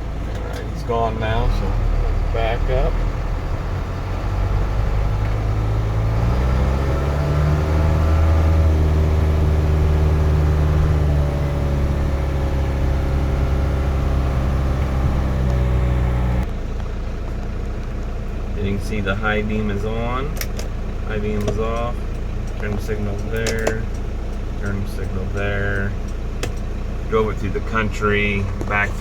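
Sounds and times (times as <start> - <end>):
truck engine revving: 0.0 - 16.5, 18.7 - 29.0.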